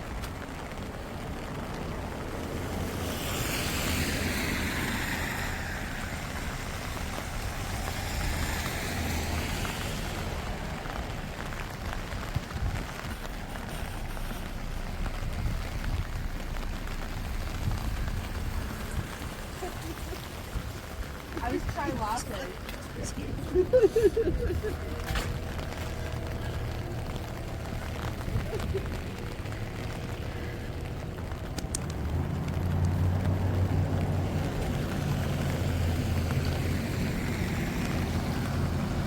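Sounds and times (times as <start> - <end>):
rain pattering: 0.0 - 39.0
small drips: 0.0 - 39.0
tyres hissing on wet road: 0.0 - 39.0.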